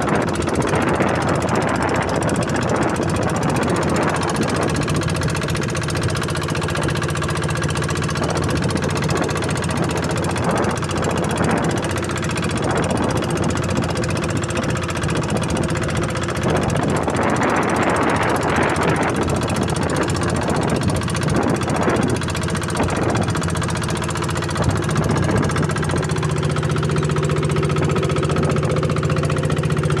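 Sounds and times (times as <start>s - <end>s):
boat engine knocking: 0.0s - 30.0s.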